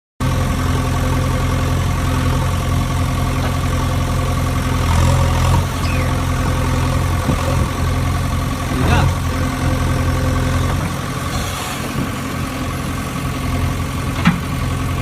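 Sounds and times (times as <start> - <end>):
diesel engine idling: 0.2 - 15.0.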